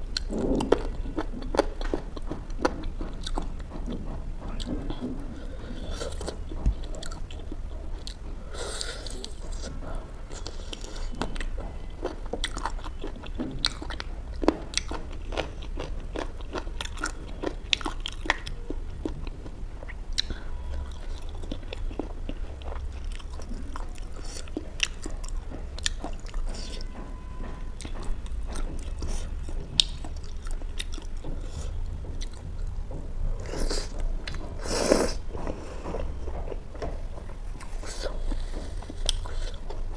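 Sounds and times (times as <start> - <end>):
chewing and biting food: 0.0 - 39.9
low steady hum: 0.0 - 39.9.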